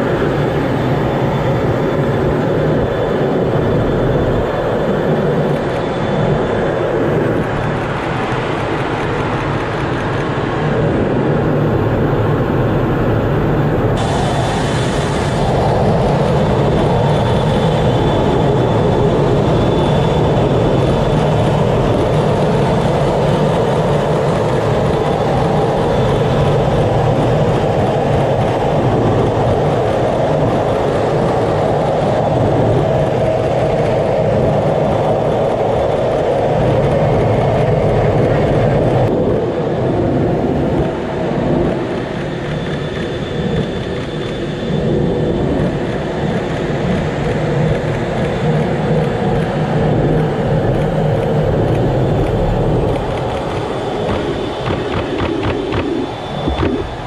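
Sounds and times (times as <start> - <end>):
jet engine and airflow rush: 0.0 - 57.0.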